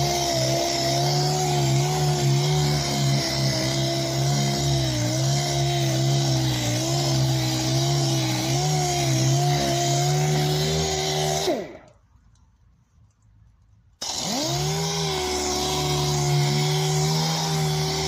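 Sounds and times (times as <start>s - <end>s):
orbital sander running: 0.0s - 11.9s, 14.0s - 18.0s.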